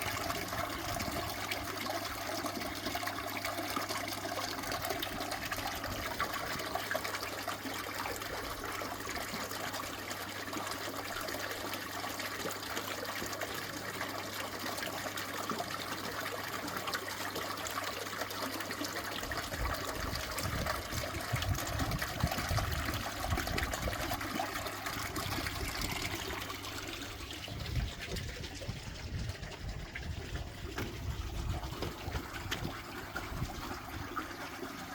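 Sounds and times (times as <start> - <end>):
water running and trickling: 0.0 - 34.9.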